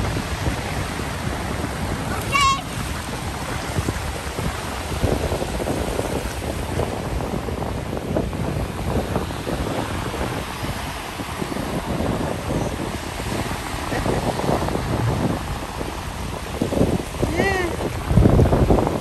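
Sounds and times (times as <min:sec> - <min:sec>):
small waves breaking: 0:00.0 - 0:19.0
wind noise on microphone: 0:00.0 - 0:19.0.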